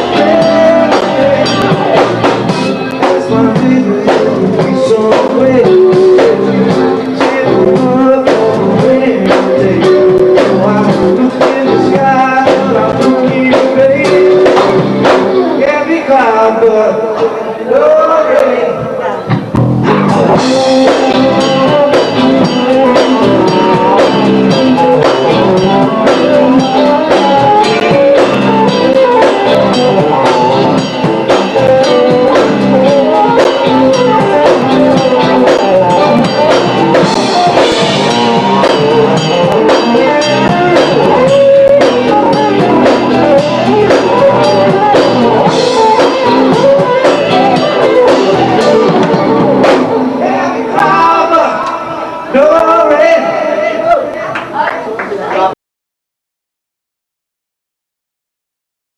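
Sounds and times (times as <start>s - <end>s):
band playing with drums and guitar: 0.0s - 17.4s, 18.7s - 54.7s.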